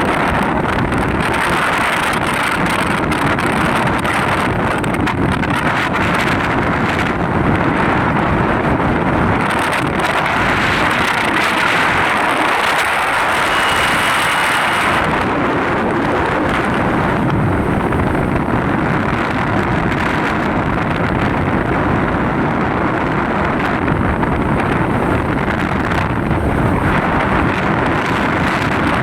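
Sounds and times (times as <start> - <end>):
wind and vehicle travel noise: 0.0 - 29.0
wind buffeting microphone: 0.0 - 29.0.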